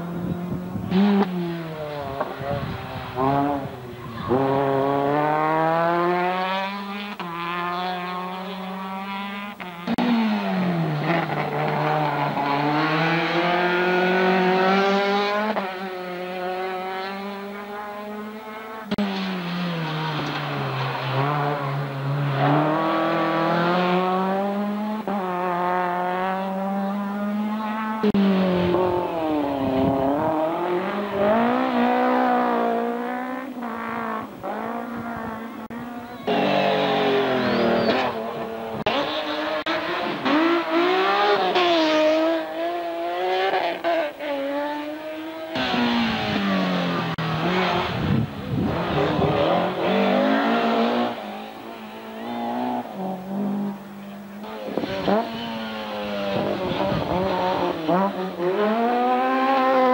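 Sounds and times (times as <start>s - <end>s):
rally car engines at full throttle: 0.0s - 59.9s.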